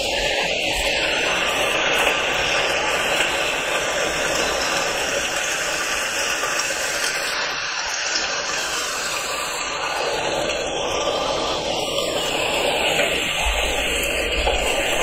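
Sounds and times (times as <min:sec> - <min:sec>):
steady loud noise: 0:00.0 - 0:15.0.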